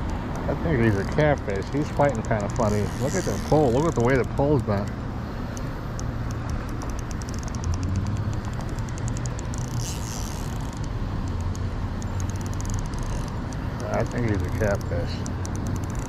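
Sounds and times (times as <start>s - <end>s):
fishing reel clicking: 0.0s - 4.9s, 5.5s - 16.0s.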